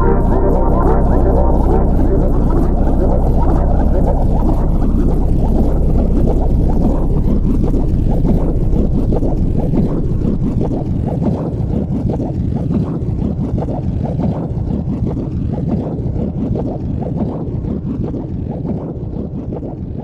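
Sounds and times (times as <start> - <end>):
low wind rumble on microphone: 0.0 - 20.0.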